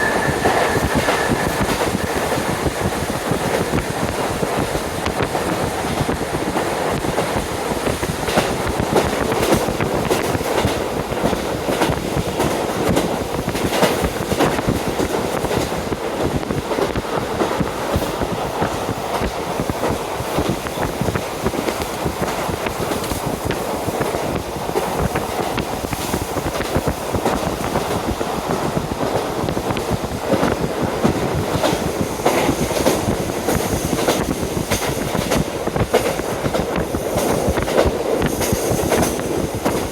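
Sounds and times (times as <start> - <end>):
train rumbling: 0.0 - 39.9
wind rushing through window: 0.0 - 39.9.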